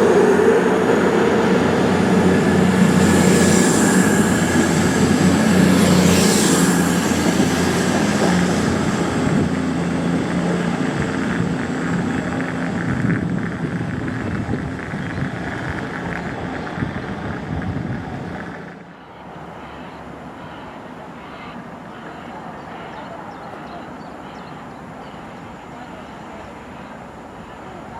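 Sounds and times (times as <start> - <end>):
train running past: 0.0 - 27.9.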